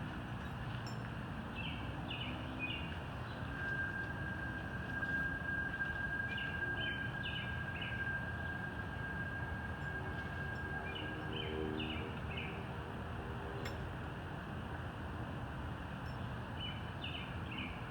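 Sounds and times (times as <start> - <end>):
outdoor background noise: 0.0 - 17.9.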